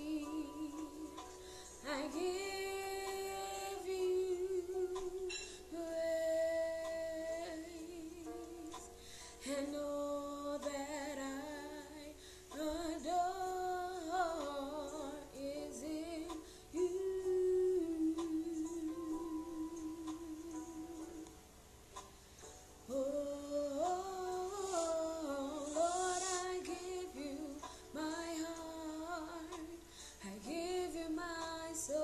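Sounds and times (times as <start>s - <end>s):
woman singing slow melody: 0.0s - 21.4s, 22.8s - 32.0s.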